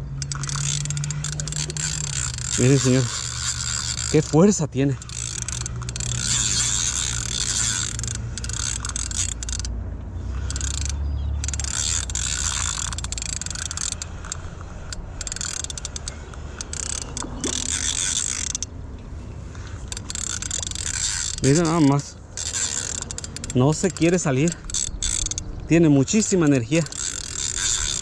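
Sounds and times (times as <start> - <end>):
fishing reel ratcheting: 0.0 - 18.8, 19.5 - 28.0.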